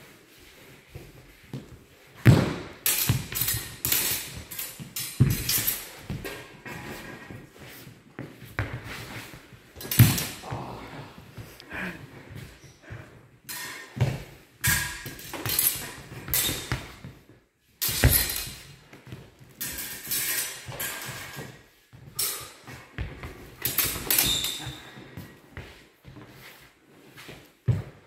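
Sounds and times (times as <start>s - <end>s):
fencing footwork scuffs: 0.1s - 28.0s.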